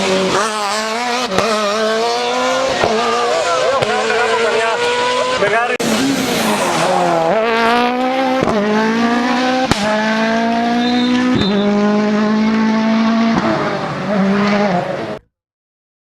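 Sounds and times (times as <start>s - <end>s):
car engine at full throttle: 0.0s - 15.2s.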